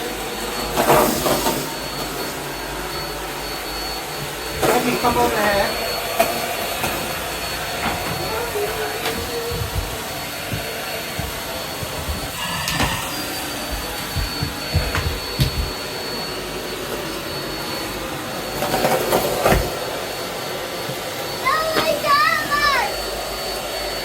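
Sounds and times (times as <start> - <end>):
vacuum cleaner whining: 0.0 - 24.0.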